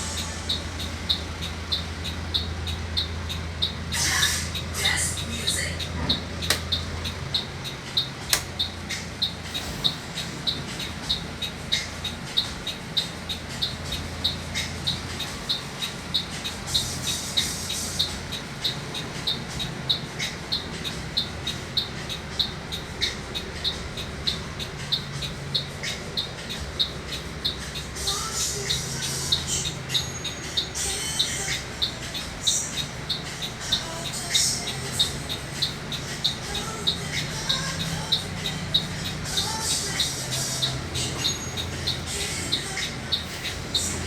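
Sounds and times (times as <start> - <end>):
bus diesel engine idling: 0.0 - 44.0.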